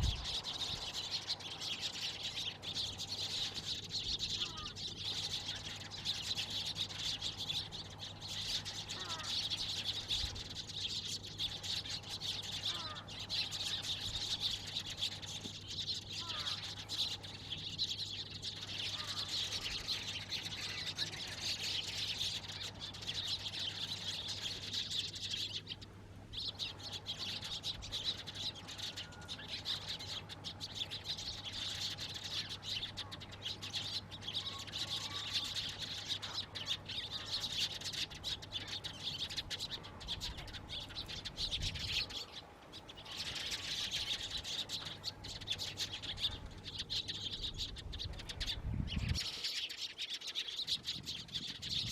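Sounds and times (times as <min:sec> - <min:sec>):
sparrows chirping in chorus: 0:00.0 - 0:51.9.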